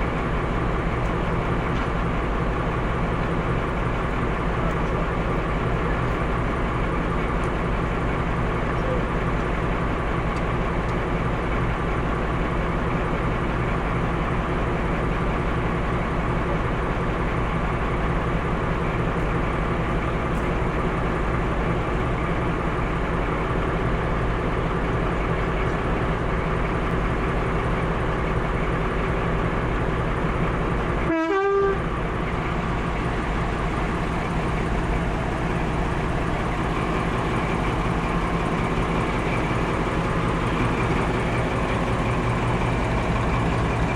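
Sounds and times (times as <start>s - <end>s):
diesel locomotive running: 0.0s - 43.9s.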